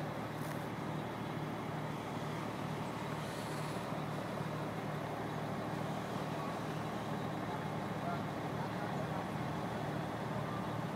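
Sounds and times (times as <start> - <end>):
diesel engine throbbing: 0.0 - 10.9.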